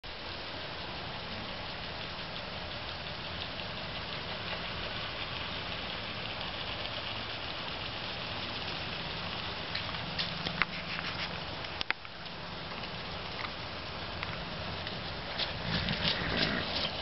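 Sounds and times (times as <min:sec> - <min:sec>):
low hum with hiss: 0:00.0 - 0:17.0.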